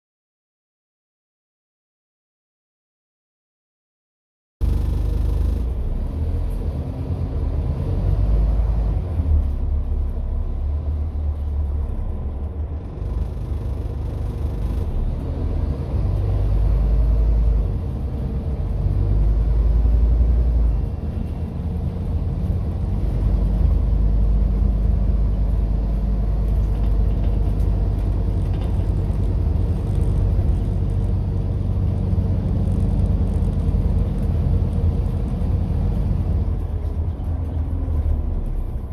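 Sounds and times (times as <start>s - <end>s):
bus engine rumble: 4.6s - 38.9s.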